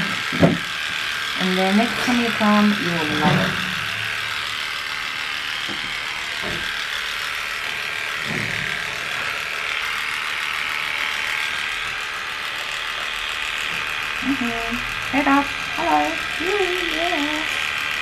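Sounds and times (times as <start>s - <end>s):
electric clippers running: 0.0s - 18.0s.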